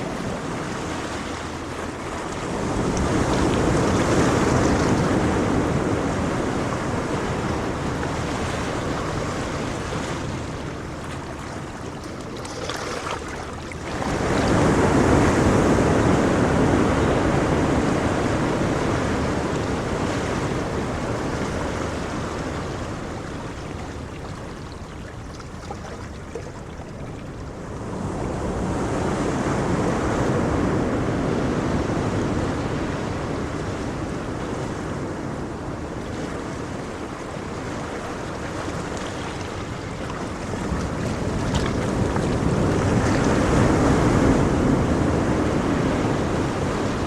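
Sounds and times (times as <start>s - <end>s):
ocean waves breaking on shore: 0.0s - 47.0s.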